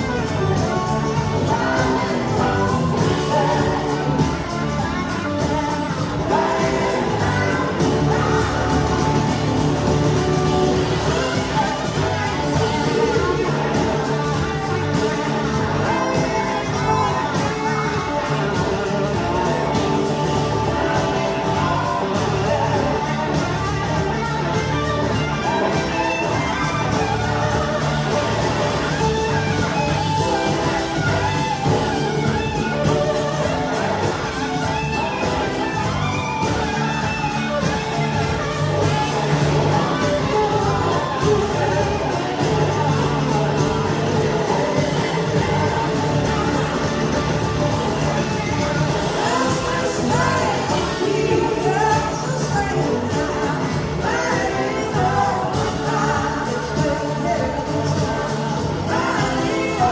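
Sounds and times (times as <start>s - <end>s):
electric guitar: 0.0s - 59.9s
live rock band playing: 0.0s - 59.9s
person singing: 0.0s - 59.9s.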